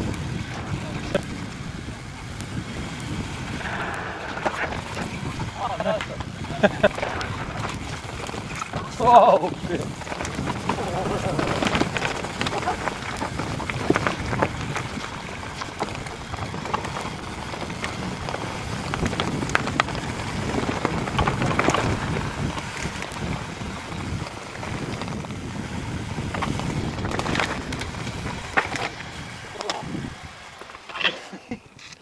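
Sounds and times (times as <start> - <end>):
wind rushing over microphone: 0.0 - 30.8
bike rattling over bumps: 0.0 - 32.0
tyres rolling on turf: 2.8 - 31.6.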